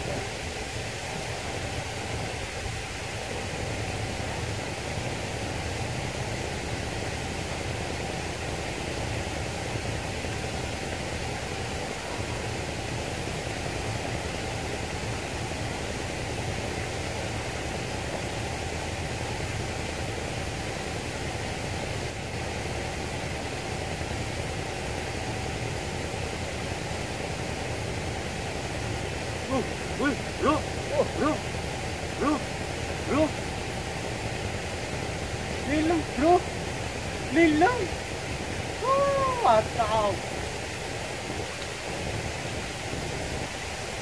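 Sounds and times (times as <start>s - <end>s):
steady rushing noise: 0.0s - 44.0s.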